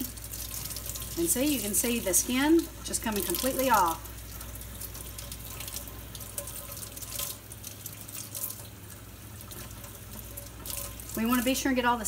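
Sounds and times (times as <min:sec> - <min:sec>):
water splashing over chile: 0:00.0 - 0:11.8
faucet running into steel sink: 0:00.0 - 0:12.0.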